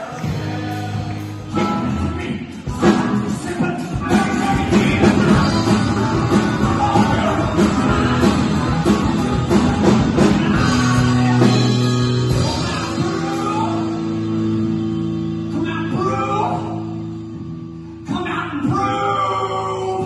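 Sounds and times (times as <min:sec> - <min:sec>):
lead vocal singing: 0:00.0 - 0:17.1, 0:18.1 - 0:20.0
drums: 0:00.0 - 0:20.0
electric guitars: 0:00.0 - 0:20.0.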